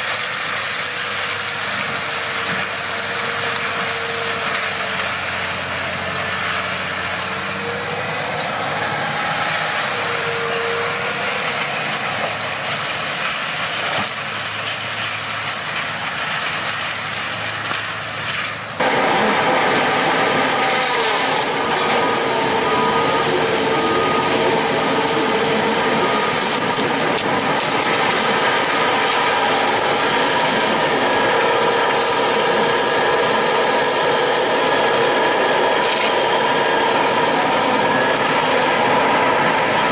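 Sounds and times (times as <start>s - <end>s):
feller buncher engine whining: 0.0s - 39.9s
forestry mulcher grinding brush: 0.0s - 39.9s
tractor engine under load: 0.0s - 39.9s.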